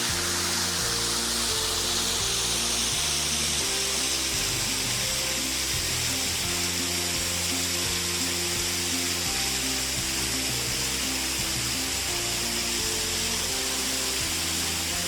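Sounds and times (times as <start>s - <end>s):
slow low background music: 0.0s - 15.0s
waterfall rushing: 0.0s - 15.0s.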